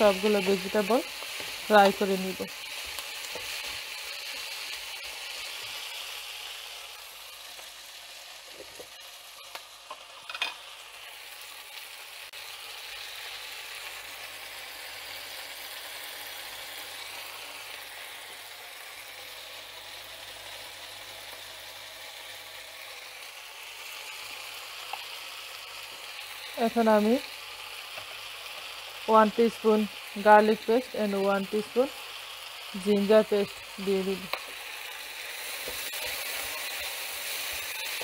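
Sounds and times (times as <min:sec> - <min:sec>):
vegetables sizzling in oil: 0:00.0 - 0:38.0.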